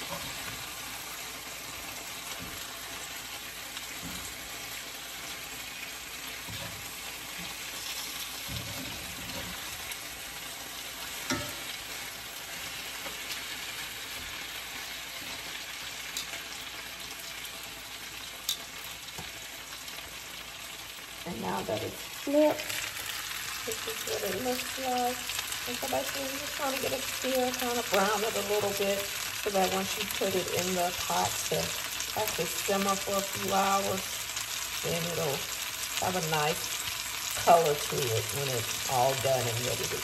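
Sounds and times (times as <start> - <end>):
meat sizzling in hot oil: 0.0 - 40.0.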